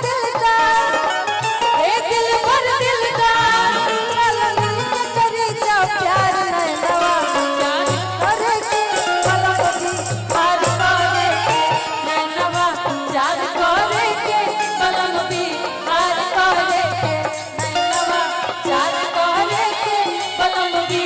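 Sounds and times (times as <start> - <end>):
rhythmic drum beat: 0.0 - 21.0.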